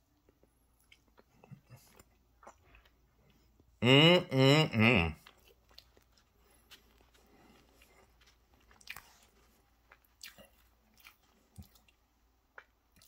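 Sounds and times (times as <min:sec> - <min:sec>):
soft chewing: 0:00.0 - 0:03.8, 0:05.2 - 0:13.0.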